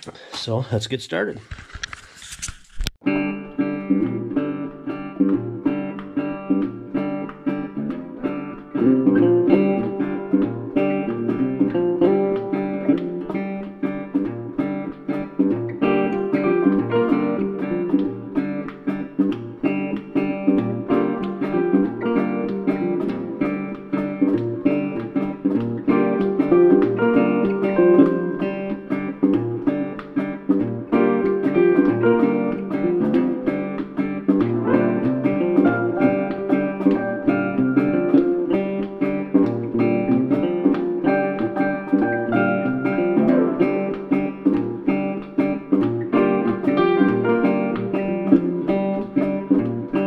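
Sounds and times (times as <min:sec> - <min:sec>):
strummed acoustic guitar: 0:03.1 - 0:50.0.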